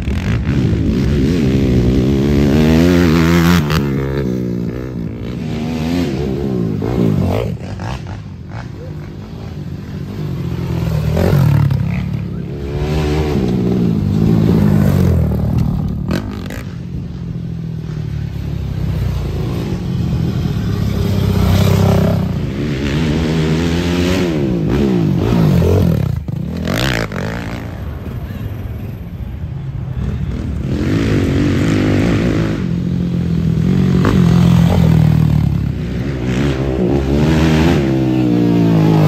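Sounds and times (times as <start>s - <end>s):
quad engines revving past: 0.0s - 39.0s.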